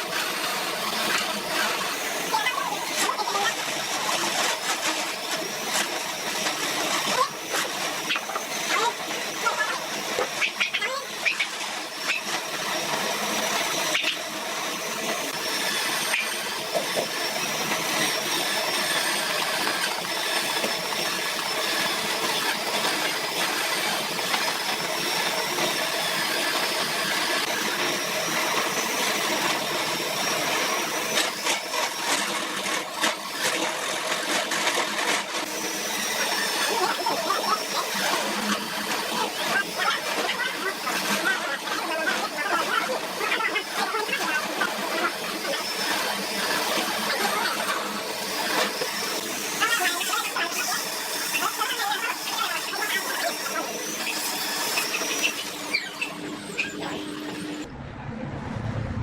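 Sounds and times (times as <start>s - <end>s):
angle grinder motor whining: 0.0s - 59.0s.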